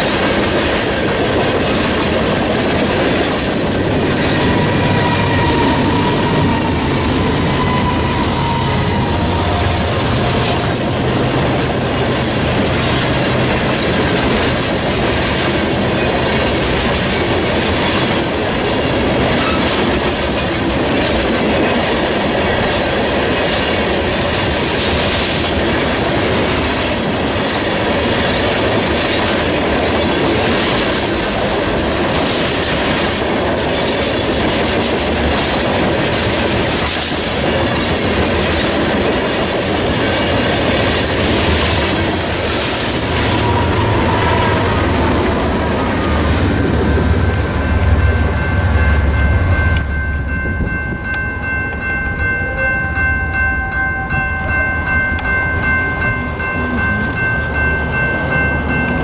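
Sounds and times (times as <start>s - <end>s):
freight train cars rumbling: 0.0s - 59.0s.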